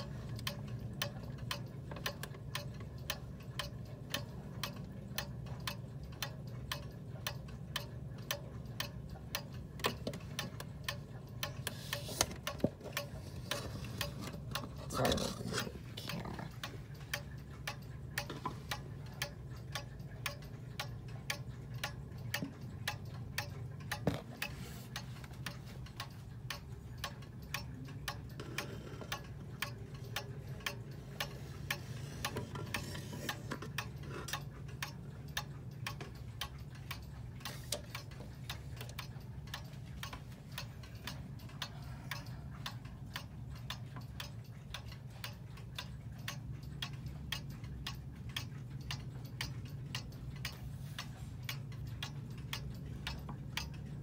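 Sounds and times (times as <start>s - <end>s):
wall clock ticking: 0.0s - 54.0s.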